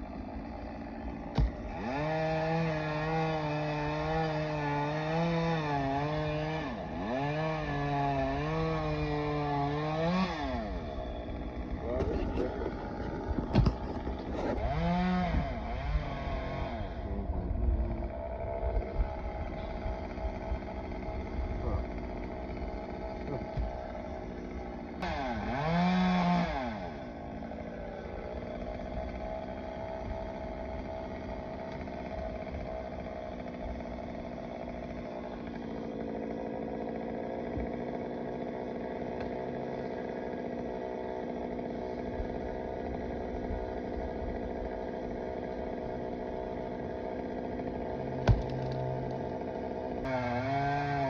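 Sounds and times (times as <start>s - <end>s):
chainsaw engine idling and revving: 0.0s - 51.0s.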